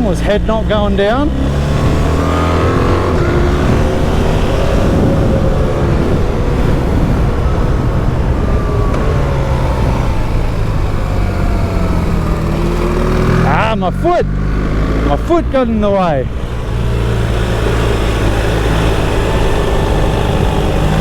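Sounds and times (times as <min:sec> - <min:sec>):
motorcycle engine running hard: 0:00.0 - 0:21.0
wind and road noise: 0:00.0 - 0:21.0.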